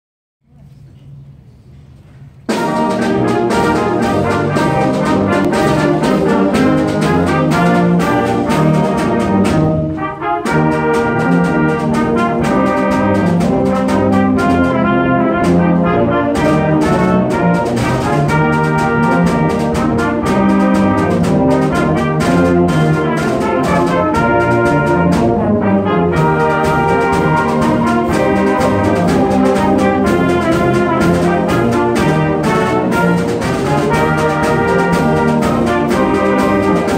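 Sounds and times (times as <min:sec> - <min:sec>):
timpani: 0:00.5 - 0:36.9
bass drum: 0:02.5 - 0:36.9
trombones: 0:02.5 - 0:36.9
trumpets: 0:02.5 - 0:36.9.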